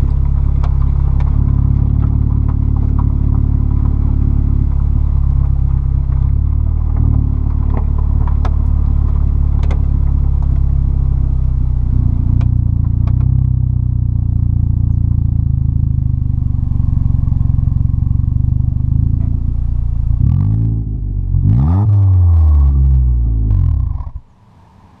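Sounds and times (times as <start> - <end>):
car exhaust droning: 0.0 - 25.0.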